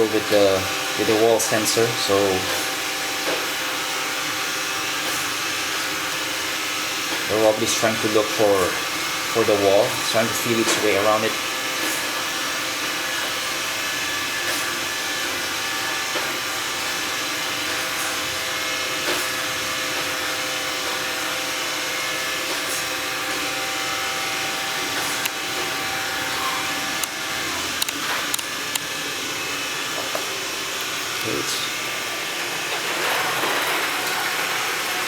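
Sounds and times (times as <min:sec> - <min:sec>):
robot vacuum whirring: 0:00.0 - 0:35.0.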